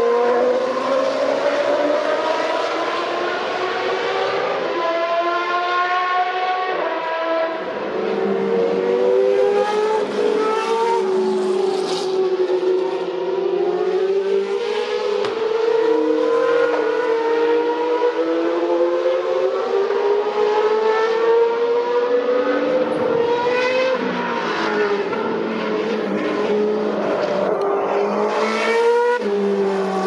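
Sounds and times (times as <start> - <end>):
race car engines at high revs: 0.0 - 30.0.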